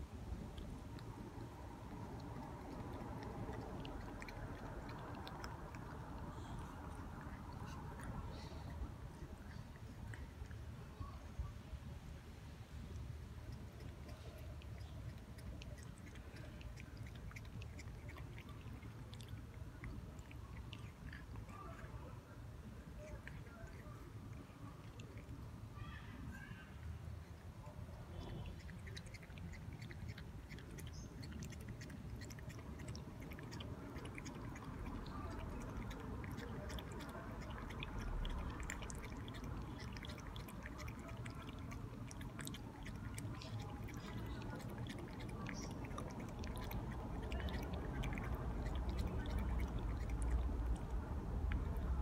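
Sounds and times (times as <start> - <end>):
cat lapping water: 0.0 - 11.8, 12.8 - 25.8, 26.8 - 52.0.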